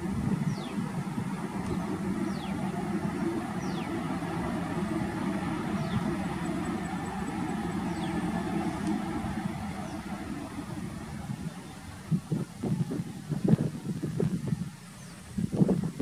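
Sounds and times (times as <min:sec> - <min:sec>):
distant jet engines roaring: 0:00.0 - 0:16.0.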